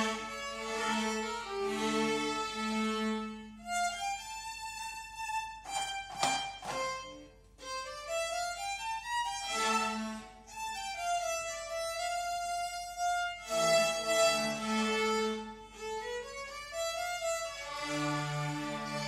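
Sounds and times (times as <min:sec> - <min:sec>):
violins and cellos bowing a tune: 0:00.0 - 0:19.0.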